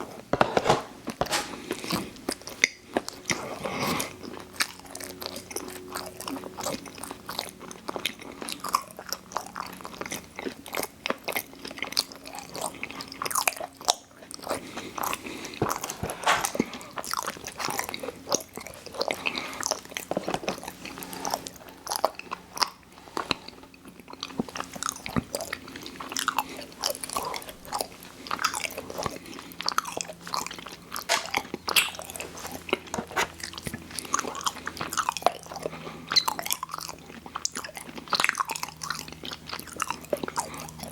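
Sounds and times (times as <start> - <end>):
person chewing snack food: 0.0 - 40.9.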